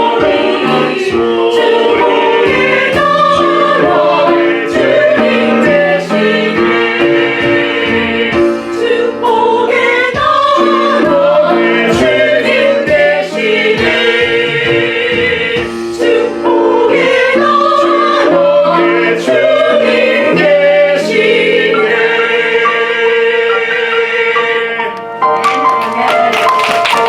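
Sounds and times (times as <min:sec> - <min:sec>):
choir singing gospel: 0:00.0 - 0:27.0.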